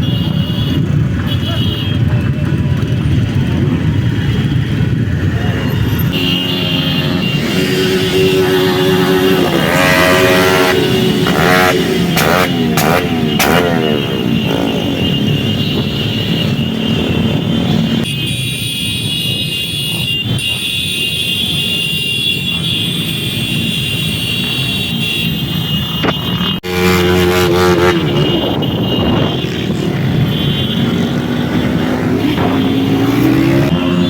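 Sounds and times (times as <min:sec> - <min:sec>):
motorcycle engines running: 0:00.0 - 0:20.7, 0:21.3 - 0:34.0.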